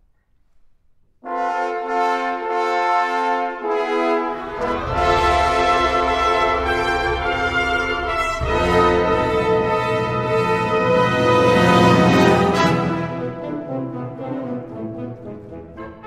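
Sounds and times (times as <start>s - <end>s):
brass chord: 1.2s - 16.0s
wind band playing full chord: 1.3s - 16.0s.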